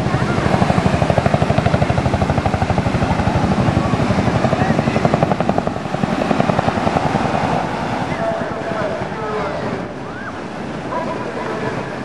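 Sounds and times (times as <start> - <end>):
helicopter rotor blade slap: 0.0 - 10.0.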